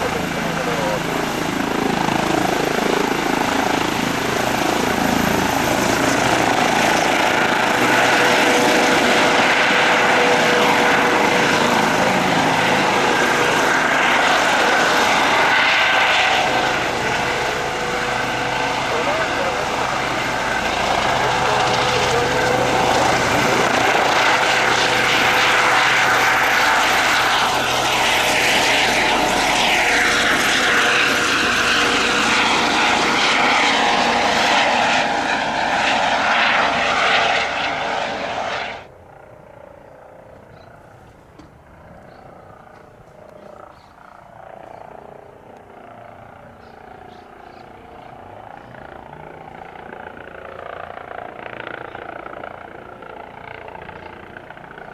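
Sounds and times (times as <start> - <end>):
helicopter turbine whine and rotor: 0.0 - 54.9.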